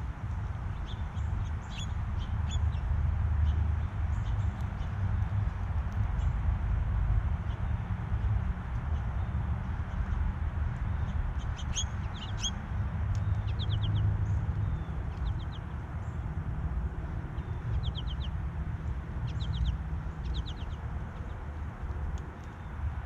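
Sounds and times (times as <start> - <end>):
small songbirds calling: 0.0 - 6.5, 7.4 - 23.0
steady low rumble: 0.0 - 23.0.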